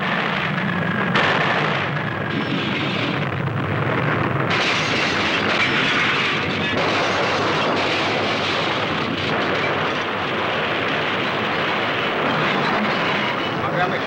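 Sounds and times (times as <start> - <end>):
churning debris: 0.0 - 14.0
tornado wind roaring: 0.0 - 14.0.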